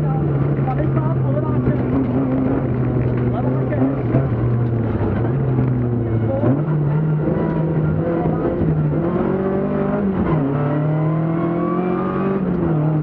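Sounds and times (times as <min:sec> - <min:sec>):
rally car engine under load: 0:00.0 - 0:13.0.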